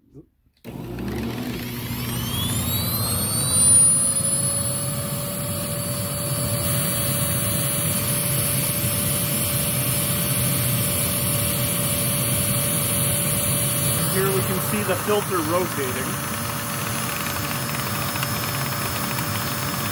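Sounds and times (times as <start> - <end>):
vacuum cleaner motor whine: 0.6 - 19.9.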